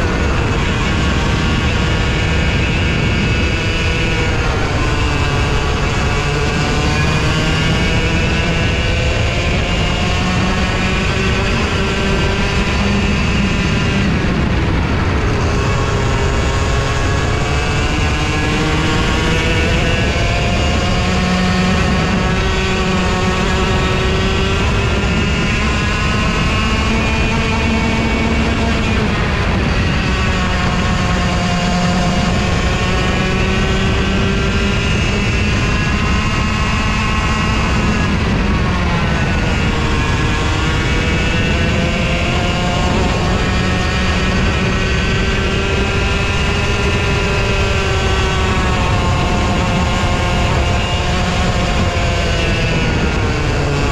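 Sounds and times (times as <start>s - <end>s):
go-kart engine revving: 0.0s - 53.9s.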